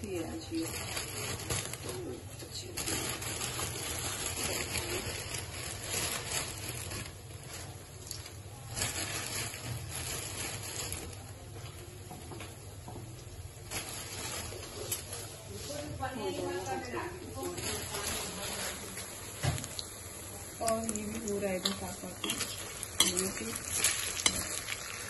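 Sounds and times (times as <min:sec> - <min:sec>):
water boiling in a pot: 0:00.0 - 0:25.0.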